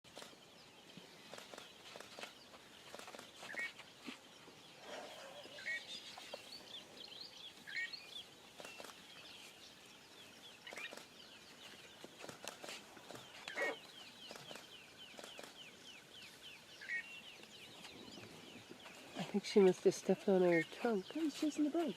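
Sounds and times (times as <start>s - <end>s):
birds chirping and twittering: 0.0s - 21.9s.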